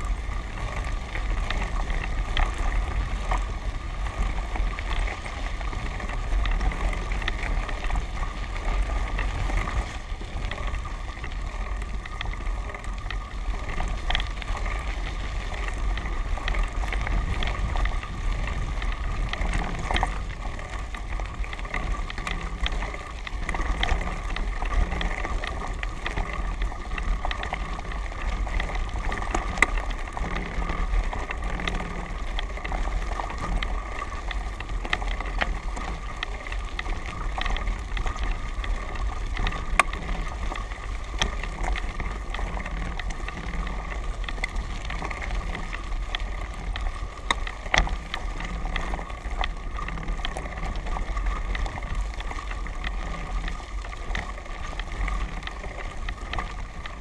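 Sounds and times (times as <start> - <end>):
wind buffeting microphone: 0.0 - 54.4
clicks and rattles from bumps: 0.0 - 57.0.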